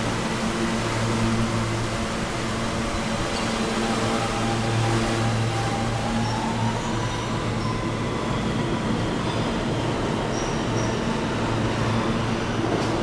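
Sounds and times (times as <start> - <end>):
subway train rumbling on rails: 0.0 - 13.0.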